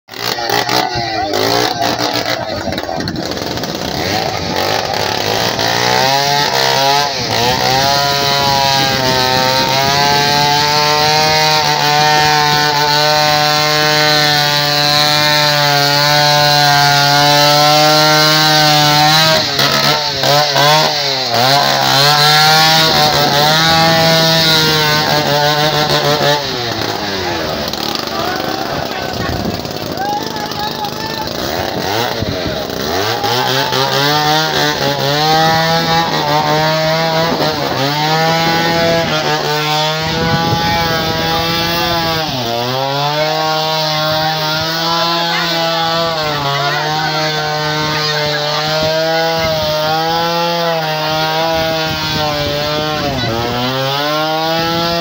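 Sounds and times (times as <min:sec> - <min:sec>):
small engine revving high: 0:00.1 - 0:55.0.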